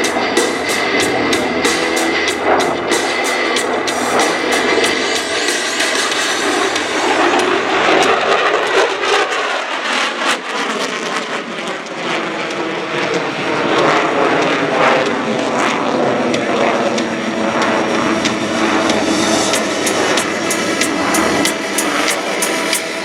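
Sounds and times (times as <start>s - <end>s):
jet engine roar with crackles: 0.0s - 23.0s.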